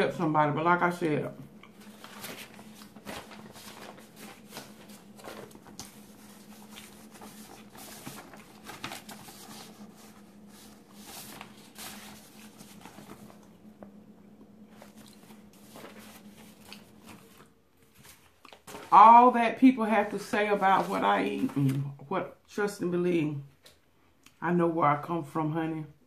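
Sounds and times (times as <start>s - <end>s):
steady low hum: 0.0s - 24.3s
photo paper rustling: 0.8s - 22.0s.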